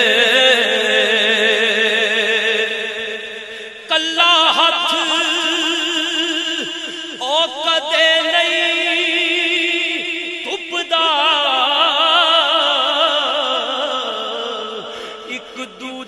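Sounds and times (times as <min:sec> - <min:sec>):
man singing with vibrato: 0:00.0 - 0:16.0.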